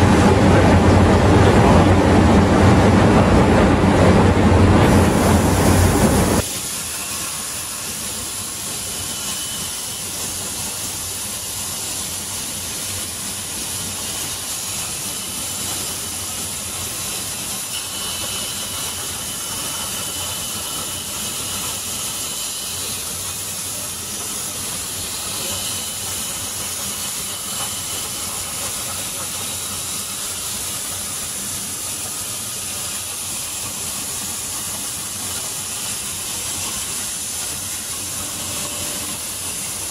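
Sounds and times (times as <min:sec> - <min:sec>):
cutting torch hissing: 0:04.8 - 0:39.9.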